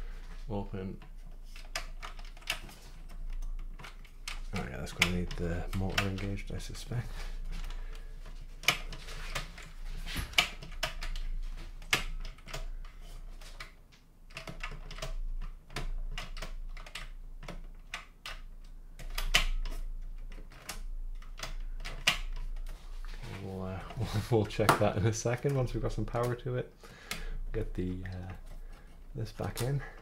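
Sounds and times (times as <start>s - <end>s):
plastic and metal parts clicking: 0.9s - 6.6s, 7.4s - 30.0s.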